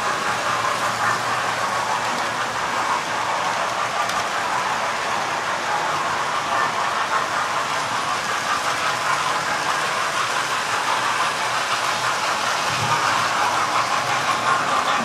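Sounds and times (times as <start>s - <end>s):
model train motors whirring: 0.0s - 15.0s.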